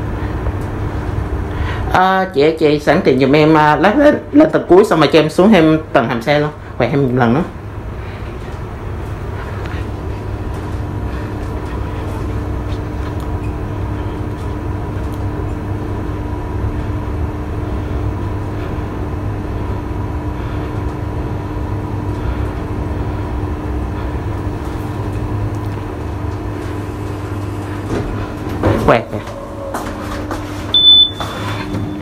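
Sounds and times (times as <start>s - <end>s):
second hum tone: 0.0s - 4.2s, 4.8s - 32.0s
elevator low rumble: 0.0s - 32.0s.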